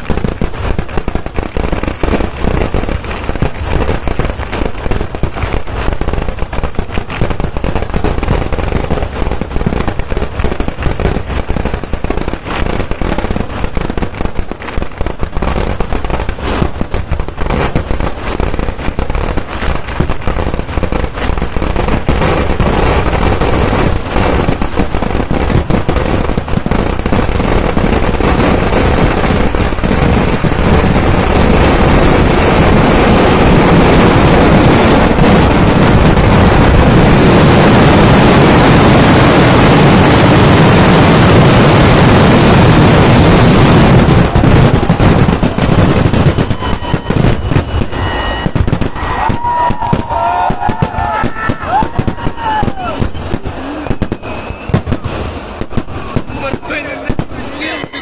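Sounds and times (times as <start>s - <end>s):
firecrackers going off rapidly: 0.0s - 58.0s.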